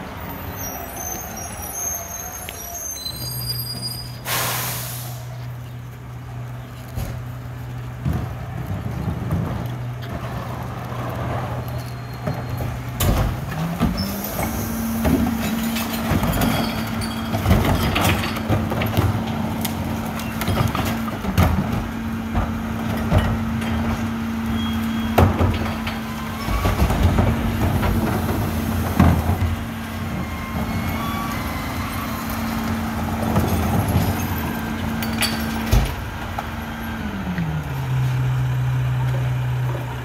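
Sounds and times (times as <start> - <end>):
diesel truck engine: 0.0 - 40.0.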